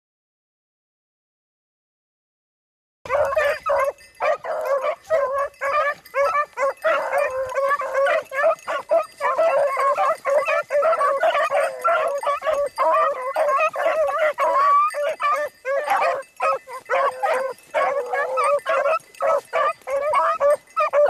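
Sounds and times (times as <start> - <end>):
pack of dogs baying: 3.1 - 21.0.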